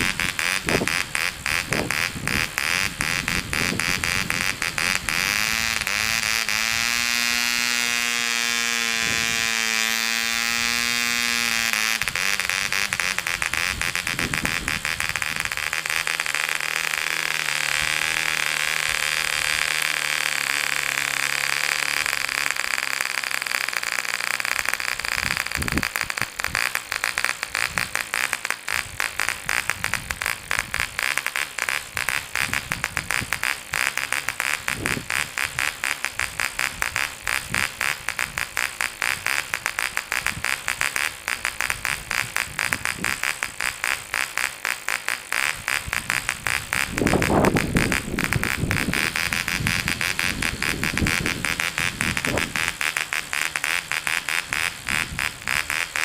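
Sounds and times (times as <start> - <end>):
model engine high-pitched whine: 0.0 - 56.0.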